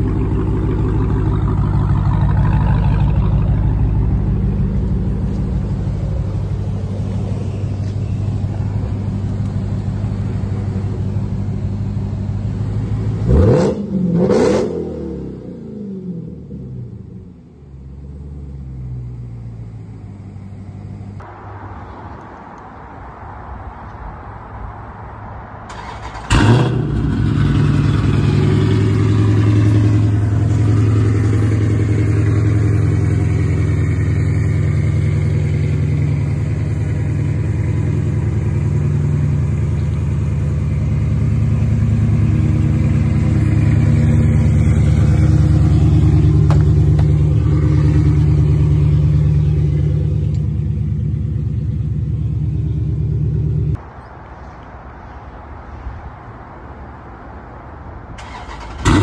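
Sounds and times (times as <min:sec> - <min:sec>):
car engine starting and idling: 0:00.0 - 0:21.3, 0:25.6 - 0:53.8, 0:58.1 - 0:59.0.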